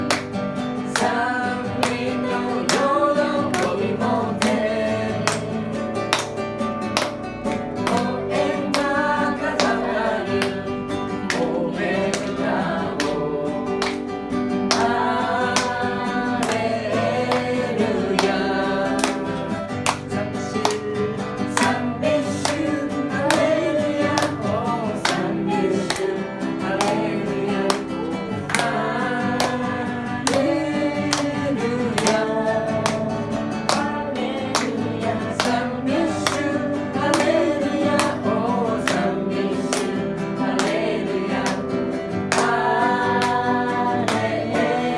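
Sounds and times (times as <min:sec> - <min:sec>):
group singing a hymn: 0:00.0 - 0:44.9
strummed acoustic guitar: 0:00.0 - 0:44.9.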